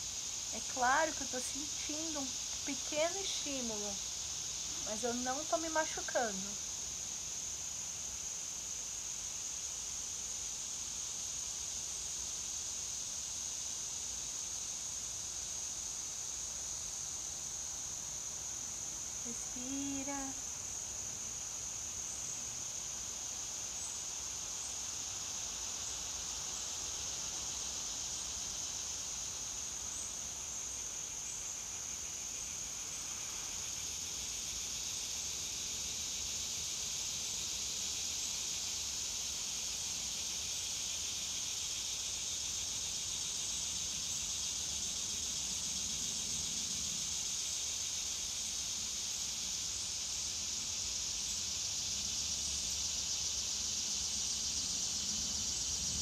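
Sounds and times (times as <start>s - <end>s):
chorus of insects: 0.0s - 56.0s.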